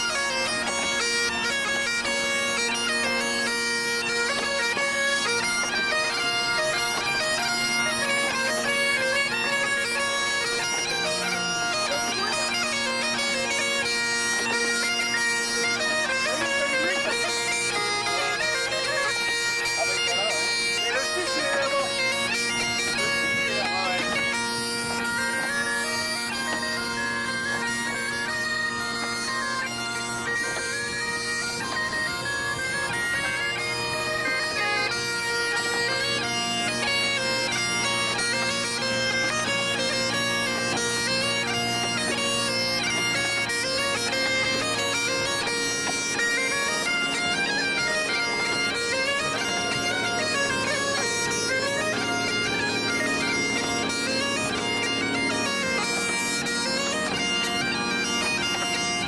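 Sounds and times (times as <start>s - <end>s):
bagpipe and bombarde playing: 0.0s - 59.0s.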